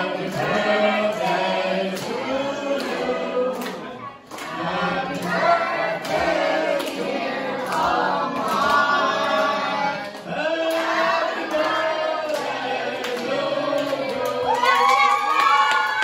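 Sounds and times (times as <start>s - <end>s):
group singing: 0.0s - 15.6s
steady clapping beat: 0.0s - 16.0s.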